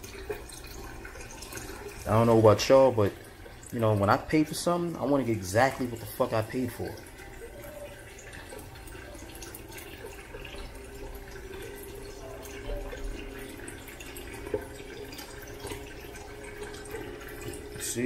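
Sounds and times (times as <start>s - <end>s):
water drips: 0.0s - 18.0s.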